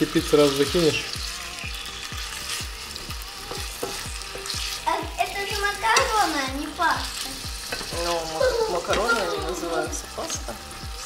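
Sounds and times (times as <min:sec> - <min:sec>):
wooden spatula stirring in a pan: 0:00.0 - 0:10.6
background music with low beat: 0:00.0 - 0:11.0
chicken sizzling in a frying pan: 0:00.0 - 0:11.0.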